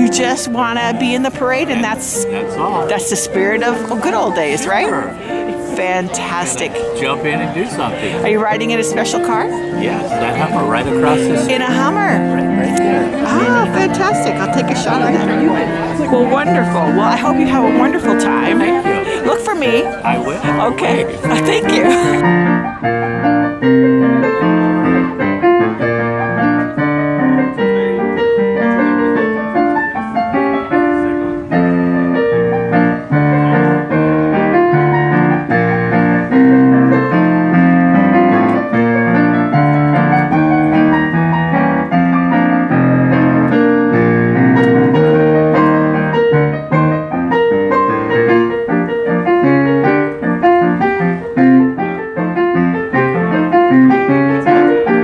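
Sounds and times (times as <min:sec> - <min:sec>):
ragtime piano tune: 0:00.0 - 0:55.0.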